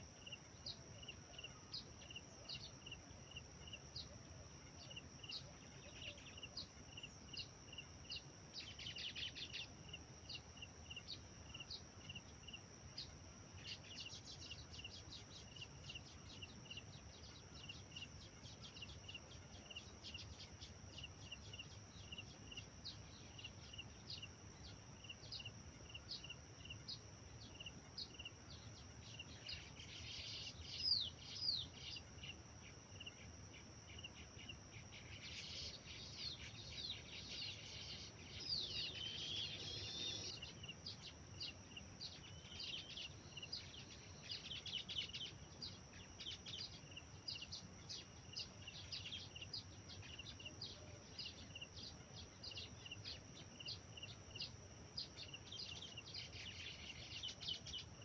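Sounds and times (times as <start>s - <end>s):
high insect drone: 0.0s - 58.0s
birds singing and chirping: 0.1s - 58.0s.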